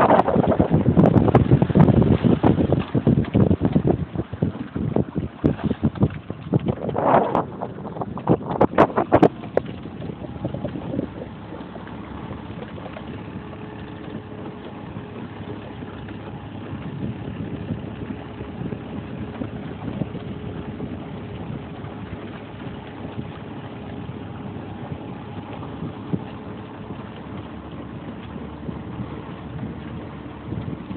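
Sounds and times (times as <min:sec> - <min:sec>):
outboard motor running: 0:00.0 - 0:30.9
water noise: 0:00.0 - 0:30.9
wind: 0:00.0 - 0:30.9.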